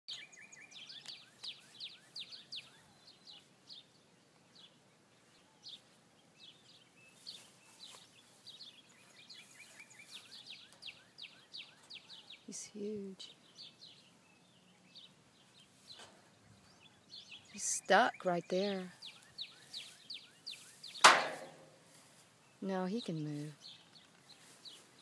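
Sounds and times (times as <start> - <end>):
faint bird chirping: 0.1 - 25.0.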